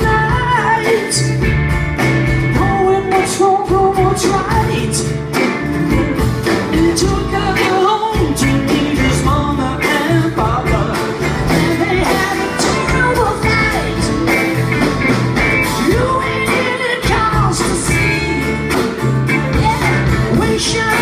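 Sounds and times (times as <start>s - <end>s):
person singing lead vocal: 0.0s - 1.7s, 2.5s - 14.8s, 15.5s - 21.0s
bass: 0.0s - 21.0s
drums: 0.0s - 21.0s
rock band playing: 0.0s - 21.0s.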